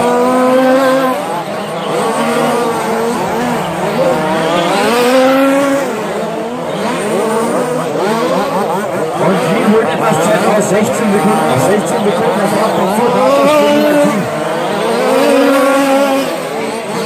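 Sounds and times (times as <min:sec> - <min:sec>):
rc truck motors racing: 0:00.0 - 0:17.0.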